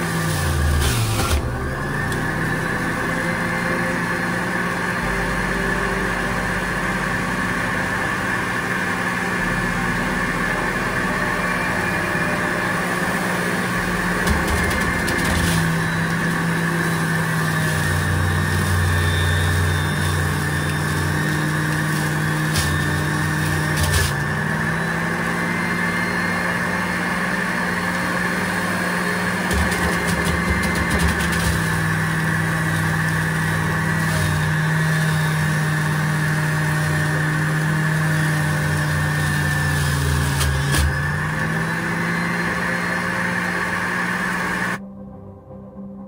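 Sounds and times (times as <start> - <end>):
juicer motor humming: 0.0 - 44.8.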